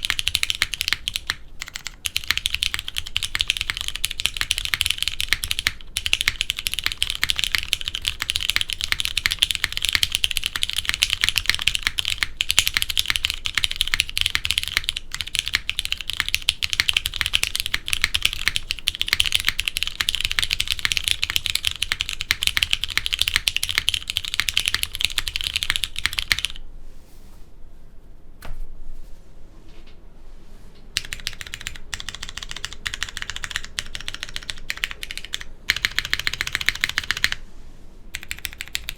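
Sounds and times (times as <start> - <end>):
mechanical keyboard typing: 0.0 - 26.6, 31.0 - 37.4, 38.1 - 38.9.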